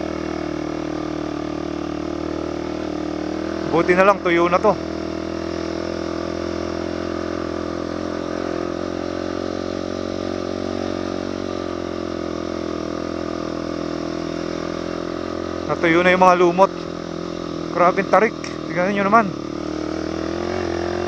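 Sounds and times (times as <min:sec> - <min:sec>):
motorcycle engine pulling steadily: 0:00.0 - 0:21.0.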